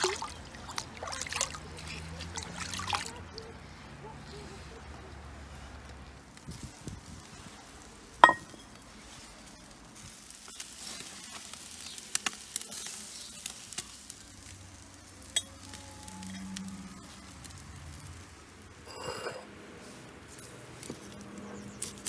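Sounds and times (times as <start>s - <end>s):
food sizzling on a grill: 0.0s - 22.0s.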